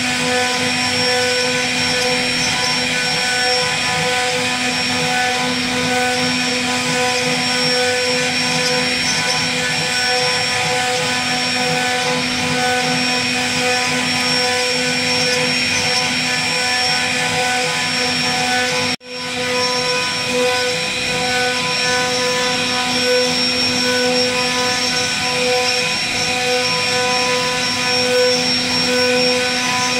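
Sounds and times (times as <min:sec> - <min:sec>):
cutter hissing through wood: 0:00.0 - 0:29.9
router spindle whining: 0:00.0 - 0:29.9.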